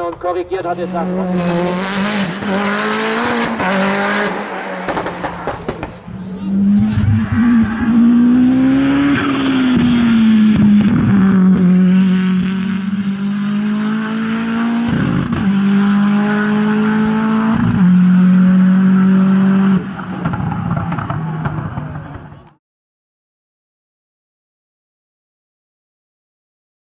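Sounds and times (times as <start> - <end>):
car engine at high revs: 0.7 - 22.4.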